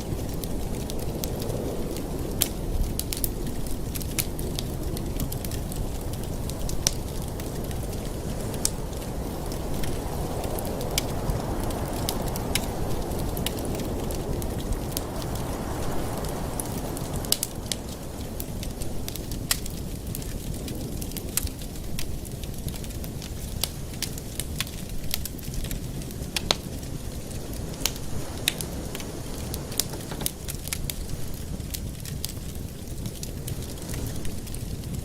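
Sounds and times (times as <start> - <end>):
low rumble of flames: 0.0 - 35.0
wood fire crackling: 0.0 - 35.0.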